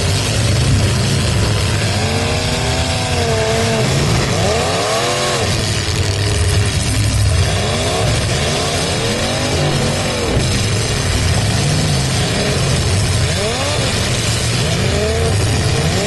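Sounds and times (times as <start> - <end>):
car engines revving hard: 0.0 - 16.0
heavy low rumble: 0.0 - 16.0.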